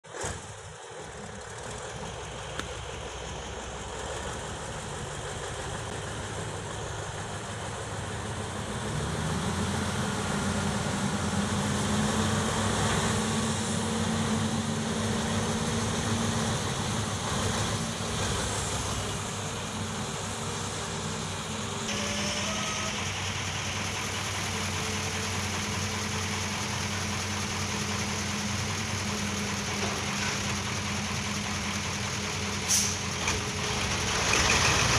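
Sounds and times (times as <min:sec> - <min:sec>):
diesel truck engine revving: 0:00.1 - 0:34.9.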